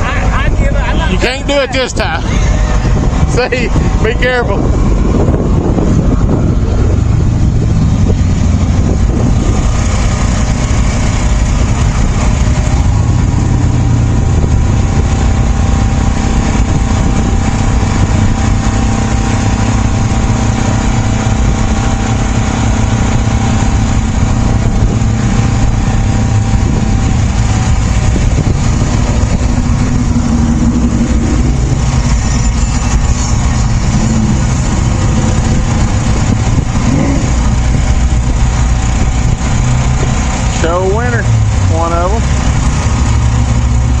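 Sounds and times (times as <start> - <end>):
car engine idling low: 0.0 - 44.0.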